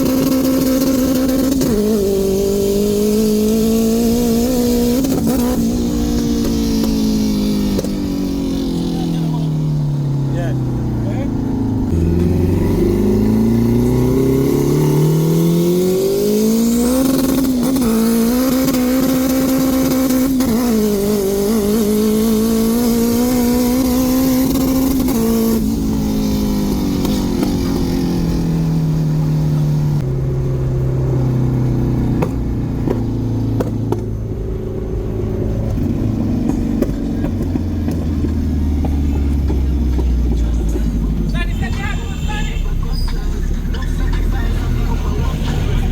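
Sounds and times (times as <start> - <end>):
car engine accelerating hard: 0.0 - 45.9.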